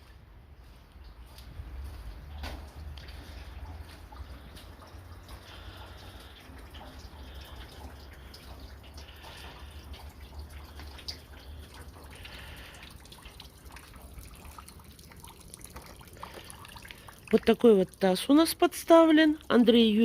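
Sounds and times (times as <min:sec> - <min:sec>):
meltwater dripping into a basin: 0:00.9 - 0:20.0.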